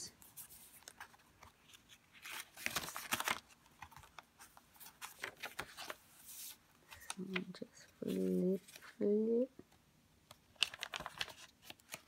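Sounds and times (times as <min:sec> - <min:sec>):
paper pages rustling: 0:00.2 - 0:09.0, 0:10.3 - 0:12.0.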